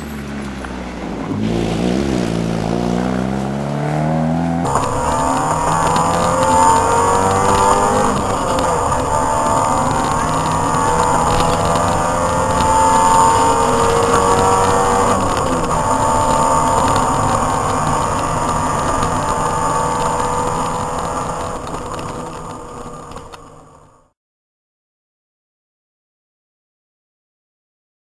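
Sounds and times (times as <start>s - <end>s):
car engine accelerating hard: 0.0s - 24.1s.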